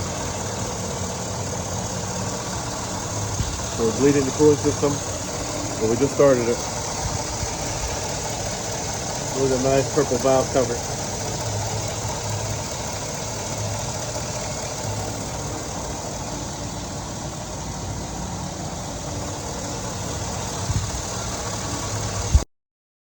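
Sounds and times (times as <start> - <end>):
engine idling: 0.0 - 22.5.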